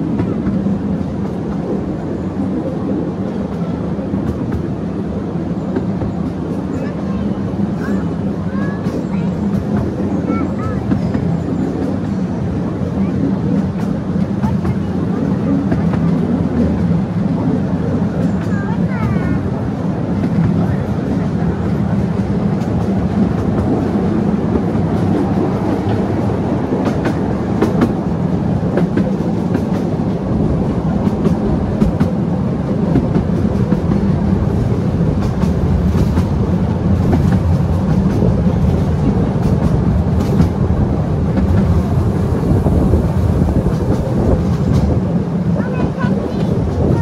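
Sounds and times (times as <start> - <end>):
miniature train rumbling: 0.0 - 47.0
wheels clicking on rails: 0.0 - 47.0.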